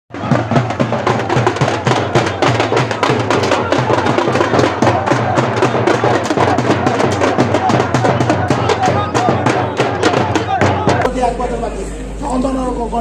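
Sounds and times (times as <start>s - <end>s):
drum band beating: 0.1s - 11.2s
voices: 0.1s - 13.0s.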